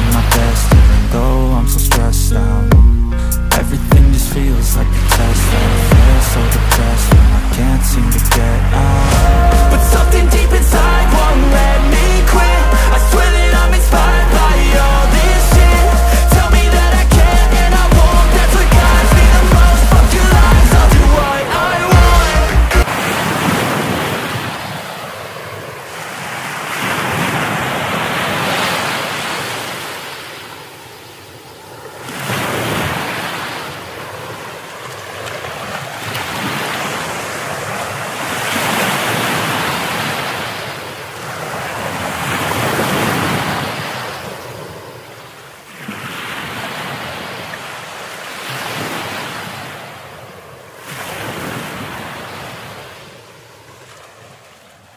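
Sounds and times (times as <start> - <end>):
ocean waves washing in: 0.0 - 2.2, 3.1 - 54.9.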